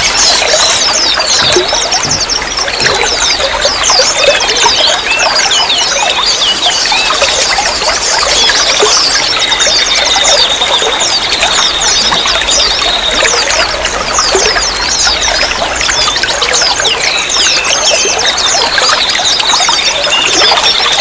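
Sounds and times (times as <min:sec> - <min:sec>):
small birds chirping: 0:00.0 - 0:21.0
water trickling: 0:00.0 - 0:21.0.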